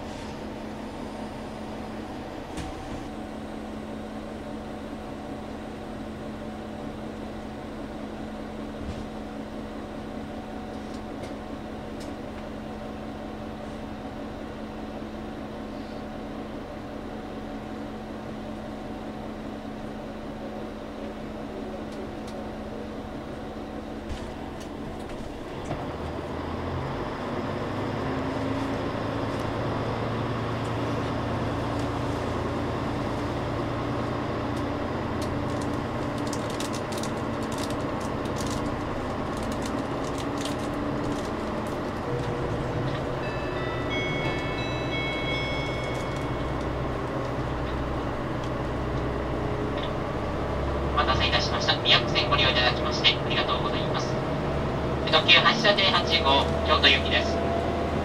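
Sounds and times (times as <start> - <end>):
diesel railcar engine: 0.0 - 58.0.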